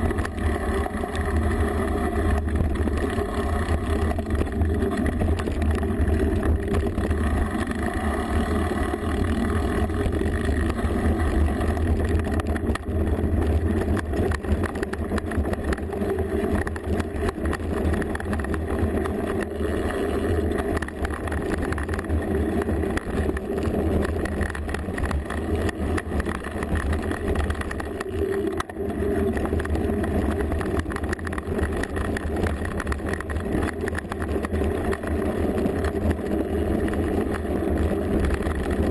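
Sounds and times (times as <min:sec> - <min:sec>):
bike rattles and knocks: 0:00.0 - 0:38.9
low rumble of wind and vibration: 0:00.0 - 0:38.9.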